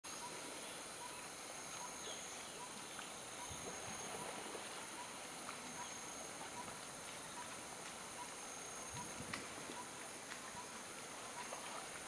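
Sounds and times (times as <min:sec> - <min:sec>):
soft hiss: 0:00.1 - 0:12.0.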